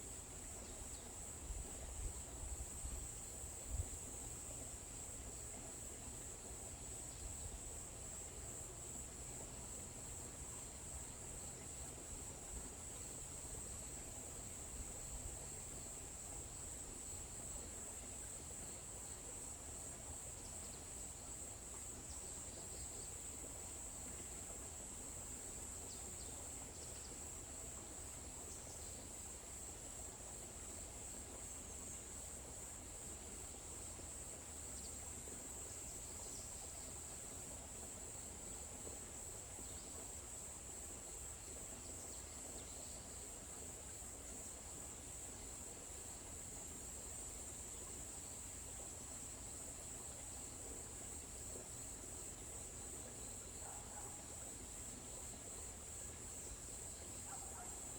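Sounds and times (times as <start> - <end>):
insect chorus trilling: 0.9 - 57.9.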